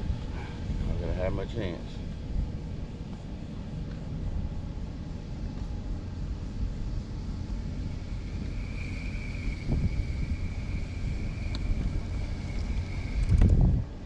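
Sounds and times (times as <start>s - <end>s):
high-pitched whine: 0.0s - 14.0s
wind buffeting microphone: 0.0s - 14.0s.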